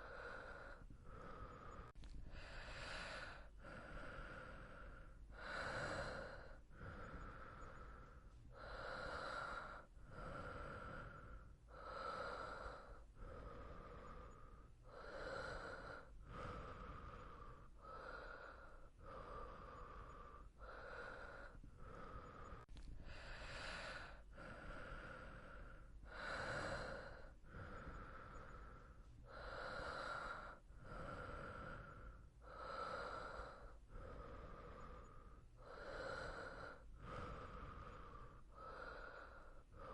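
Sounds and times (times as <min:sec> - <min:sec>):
person breathing asleep: 0:00.0 - 0:39.9.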